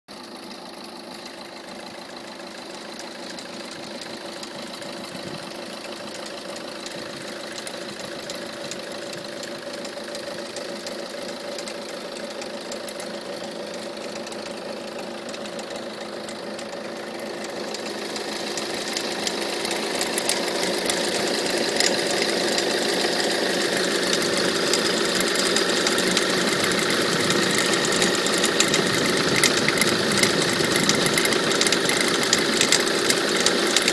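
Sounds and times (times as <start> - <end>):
diesel engine idling with clattering: 0.1 - 33.9.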